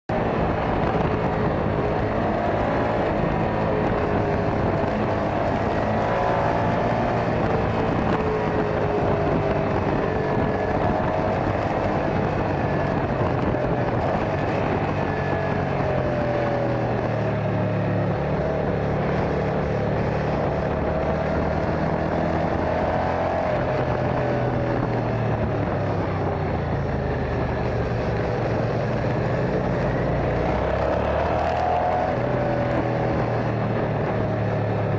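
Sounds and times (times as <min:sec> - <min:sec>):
road and wind noise: 0:00.0 - 0:34.9
motorcycle engine revving: 0:00.1 - 0:34.9.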